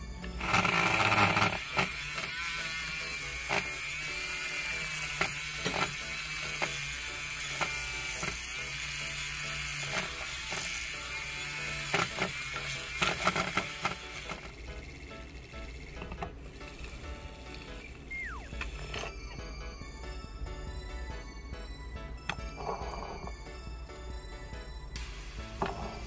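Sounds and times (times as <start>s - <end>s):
handheld whisk whirring: 0.0s - 19.9s, 24.4s - 26.0s.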